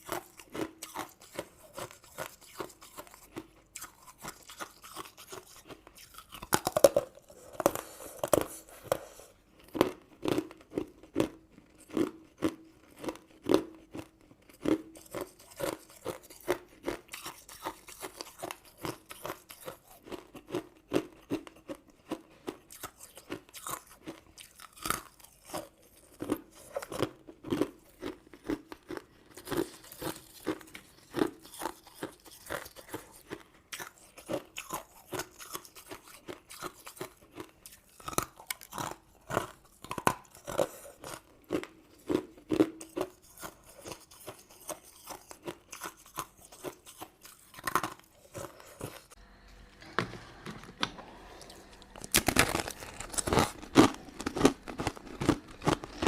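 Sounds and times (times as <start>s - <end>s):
person chewing crunchy sweets: 0.0s - 56.0s.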